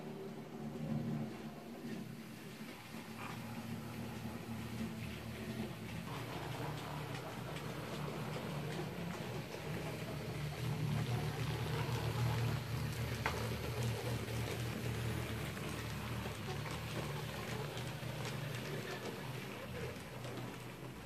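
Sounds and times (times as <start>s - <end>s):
model train motor hum: 0.0s - 21.0s
wheels clicking over track: 0.0s - 21.0s.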